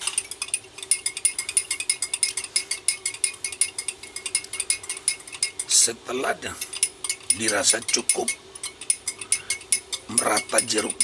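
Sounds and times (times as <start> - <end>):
spoon clinking in glass: 0.0 - 5.9, 6.5 - 11.0.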